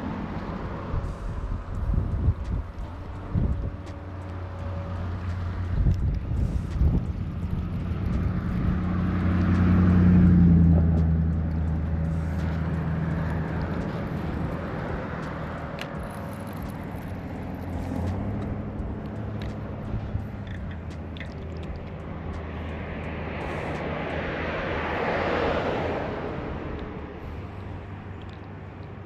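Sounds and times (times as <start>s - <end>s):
motor engine passing by: 0.0s - 28.2s.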